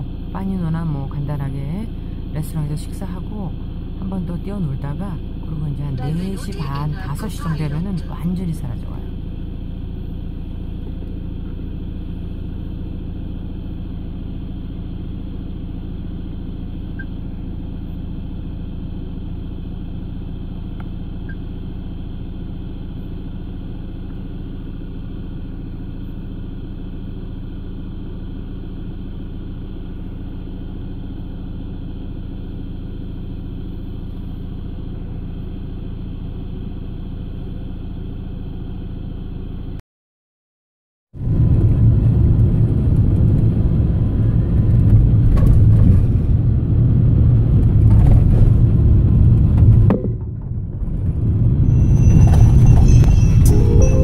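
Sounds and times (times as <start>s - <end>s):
van engine running: 0.0s - 39.8s, 41.2s - 54.0s.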